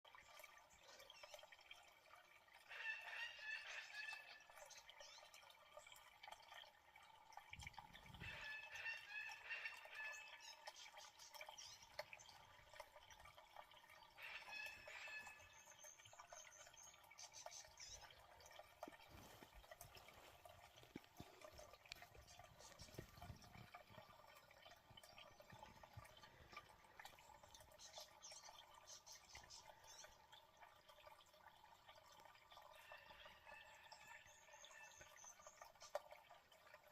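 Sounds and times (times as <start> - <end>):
small water splashes: 0.0 - 36.9
water dripping and lapping: 0.0 - 36.9.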